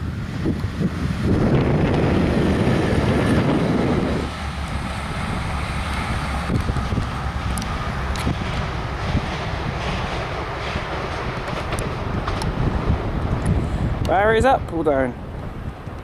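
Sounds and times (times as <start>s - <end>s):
train passing at speed: 0.0s - 16.0s
wind buffeting microphone: 0.0s - 16.0s.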